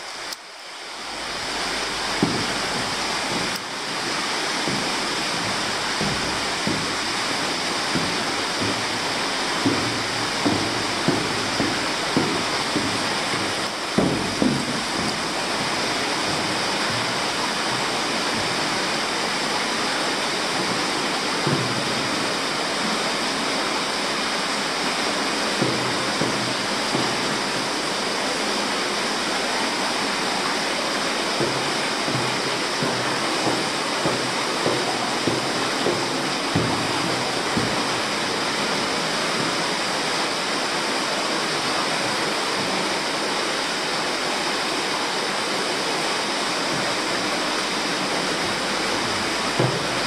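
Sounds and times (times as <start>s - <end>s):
footsteps on metal walkway: 0.0s - 50.0s
water rushing in a cave: 0.0s - 50.0s.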